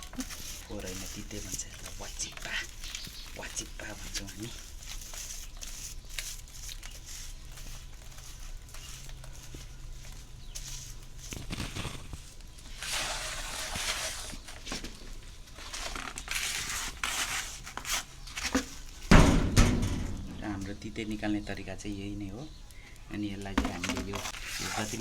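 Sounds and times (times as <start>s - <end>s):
feathers crunching and crackling: 0.0s - 25.0s.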